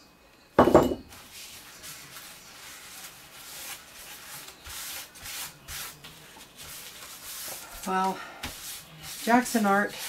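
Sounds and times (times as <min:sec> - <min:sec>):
paper towel rubbing on envelope: 0:01.2 - 0:10.0.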